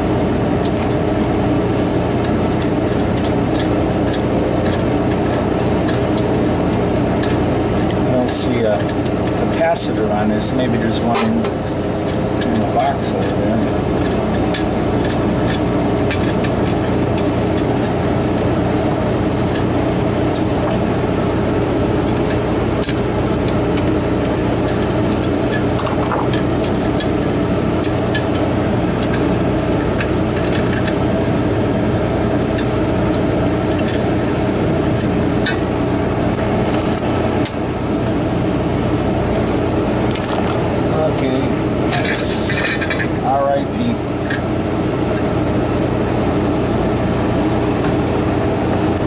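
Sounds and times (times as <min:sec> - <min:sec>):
condensing unit droning: 0:00.0 - 0:49.0.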